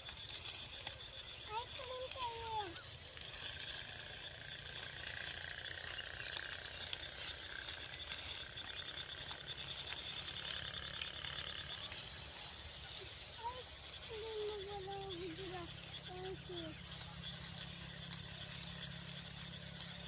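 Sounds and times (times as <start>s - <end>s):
dry wheat stalks crackling: 0.0s - 20.0s.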